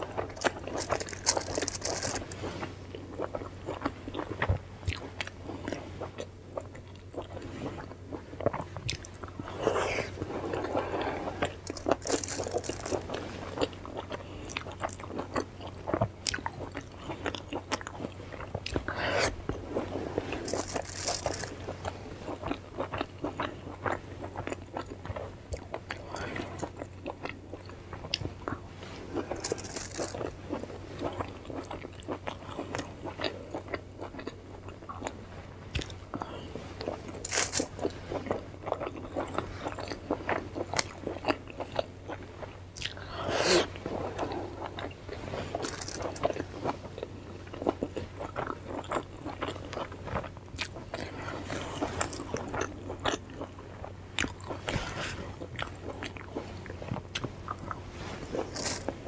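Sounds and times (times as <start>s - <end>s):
crisp shells crunching while eaten: 0.0s - 35.1s, 35.7s - 43.1s, 44.2s - 54.7s, 58.4s - 59.0s
low steady hum: 0.0s - 59.0s.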